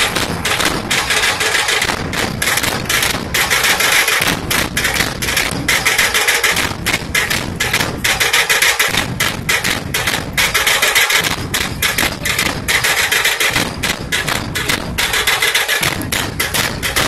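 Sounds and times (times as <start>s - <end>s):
fast barrel drumming: 0.0s - 17.0s.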